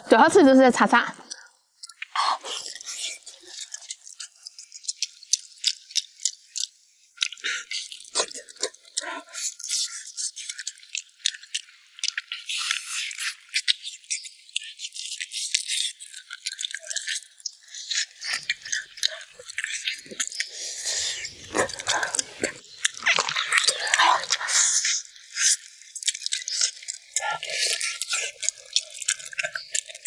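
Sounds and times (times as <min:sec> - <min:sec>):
wet chewing and mouth clicks: 0:00.1 - 0:30.0.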